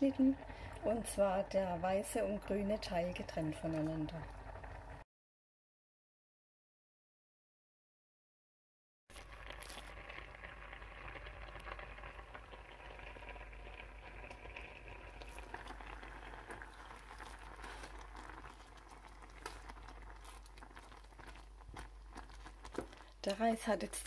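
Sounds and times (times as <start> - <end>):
water bubbling in pot: 0.0 - 5.0, 9.1 - 24.0.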